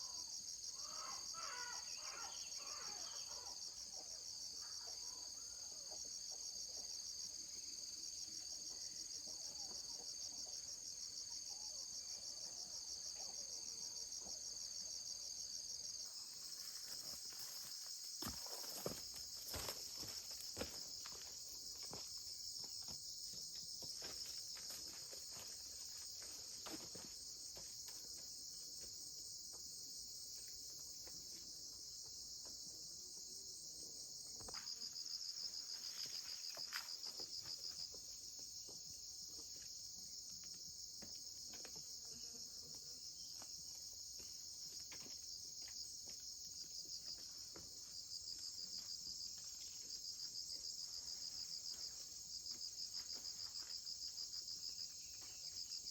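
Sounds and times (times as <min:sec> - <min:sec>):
insect chorus trilling: 0:00.0 - 0:55.9.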